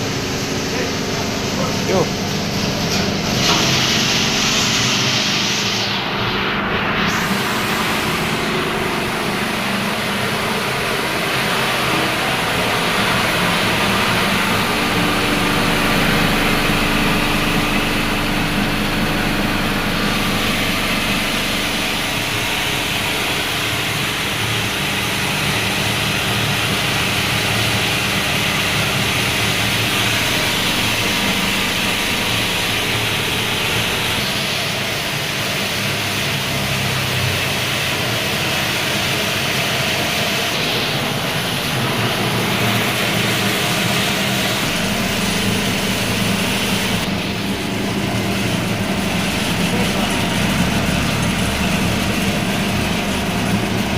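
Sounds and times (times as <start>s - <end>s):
crusher machine running: 0.0s - 53.9s.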